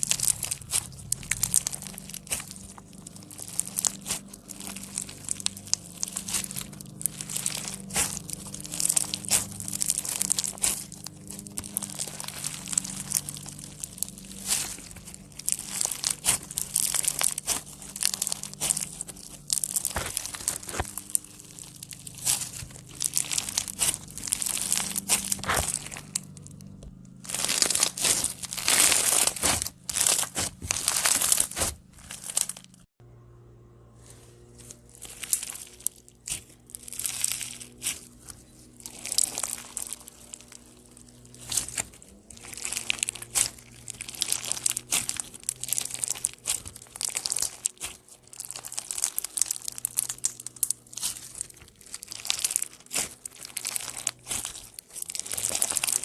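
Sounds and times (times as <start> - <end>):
slime squelching and crackling: 0.0 - 33.0, 34.1 - 56.0.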